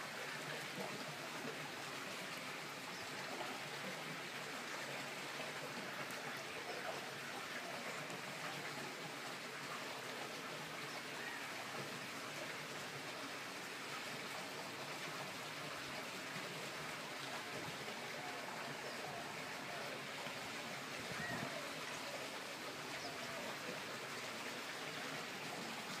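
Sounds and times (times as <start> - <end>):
water running into a pool: 0.0 - 26.0.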